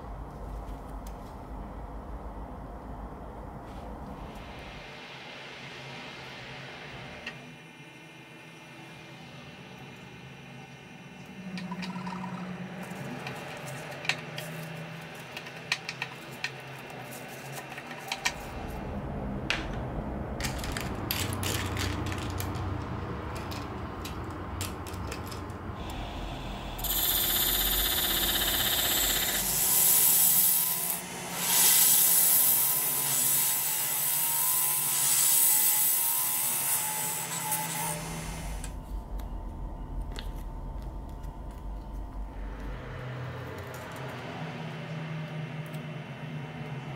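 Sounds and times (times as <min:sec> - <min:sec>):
low hum of lathe: 0:05.5 - 0:46.9.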